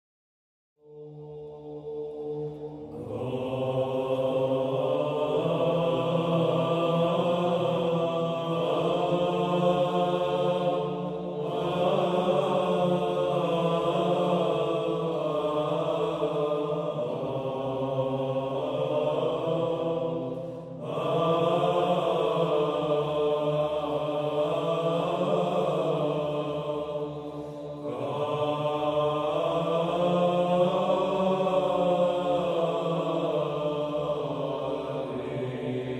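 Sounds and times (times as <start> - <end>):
slow chanting voices: 0.8 - 35.9.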